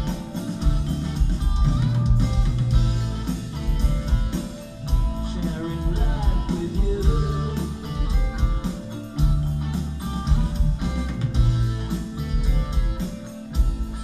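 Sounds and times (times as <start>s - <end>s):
bass guitar: 0.0s - 14.0s
drum kit beat: 0.0s - 14.0s
electric guitars: 0.0s - 14.0s.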